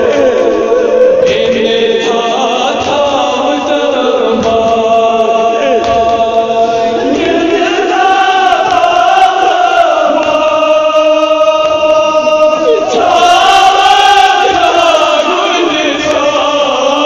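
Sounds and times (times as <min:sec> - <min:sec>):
several voices chanting a lament: 0:00.0 - 0:17.0.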